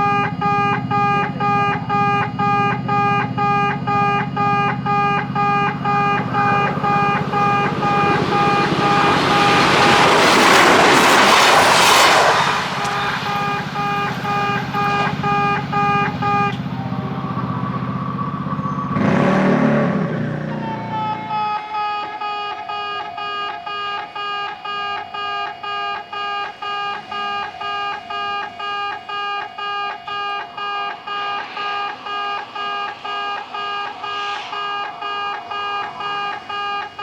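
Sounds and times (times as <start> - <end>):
train passing: 0.0 - 29.2, 30.0 - 37.0
level-crossing alarm beeping: 0.0 - 37.0.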